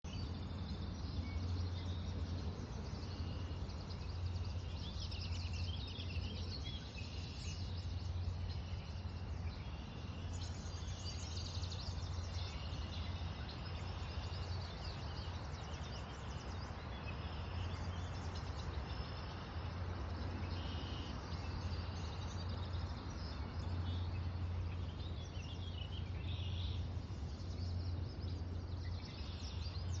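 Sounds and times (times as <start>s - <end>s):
small birds chirping and singing: 0.0s - 30.0s
steady low rumble: 0.0s - 30.0s.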